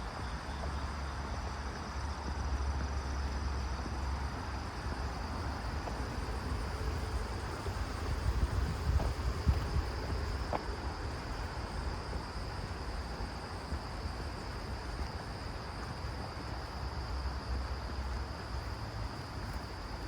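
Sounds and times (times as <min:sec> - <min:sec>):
insect chorus drone: 0:00.0 - 0:20.0
wind rumble on microphone: 0:00.0 - 0:20.0.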